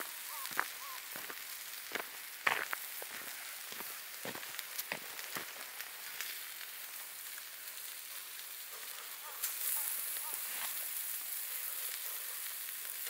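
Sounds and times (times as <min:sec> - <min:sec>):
meat sizzling in a frying pan: 0:00.0 - 0:13.0
sharp pops and crackles: 0:00.0 - 0:13.0.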